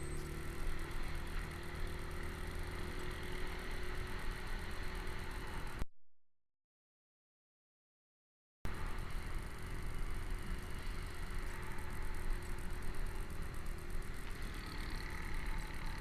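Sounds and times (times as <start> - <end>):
traffic rumble: 0.0 - 5.8, 8.7 - 16.0.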